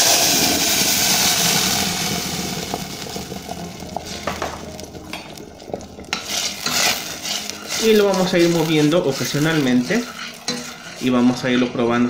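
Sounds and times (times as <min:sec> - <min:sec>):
oil crackles and pops: 0:00.0 - 0:11.1
sauce sizzling in hot oil: 0:00.0 - 0:12.0.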